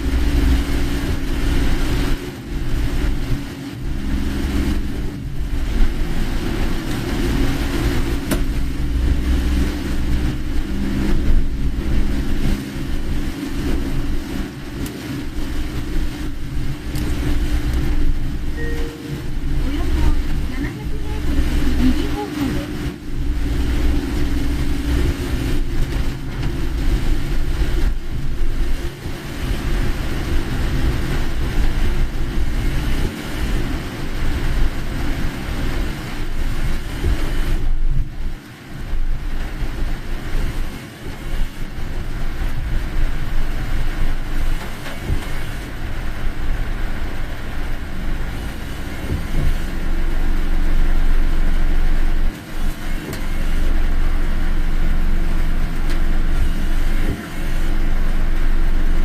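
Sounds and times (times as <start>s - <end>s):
car road and engine rumble: 0.0s - 59.0s
heavy rain and tyre spray: 0.0s - 59.0s.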